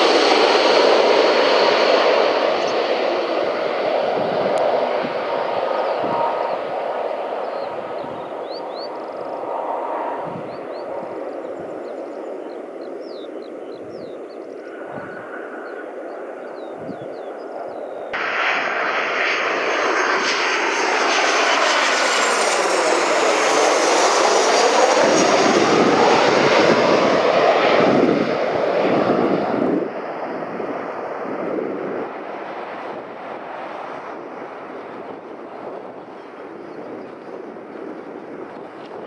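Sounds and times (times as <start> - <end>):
jet airliner passing overhead: 0.0 - 39.0.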